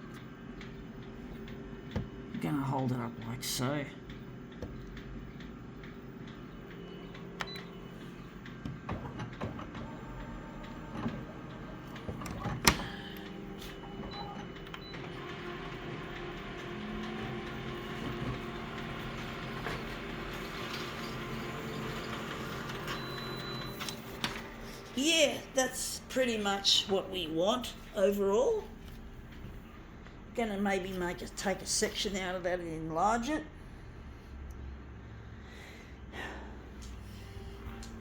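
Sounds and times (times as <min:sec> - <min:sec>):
photocopier running: 0:00.0 - 0:32.9.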